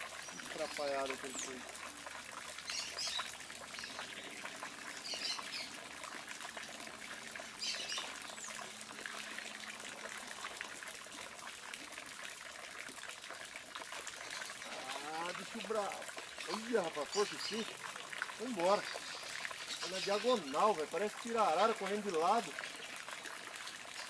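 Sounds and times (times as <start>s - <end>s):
trickling water: 0.0s - 24.0s.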